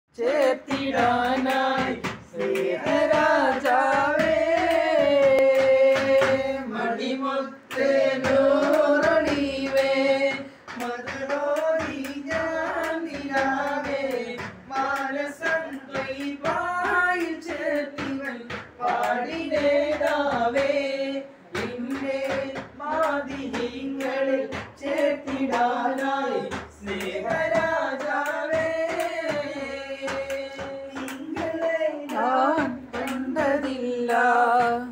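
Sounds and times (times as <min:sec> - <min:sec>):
men singing together: 0:00.1 - 0:34.9
hand clapping: 0:00.2 - 0:34.9.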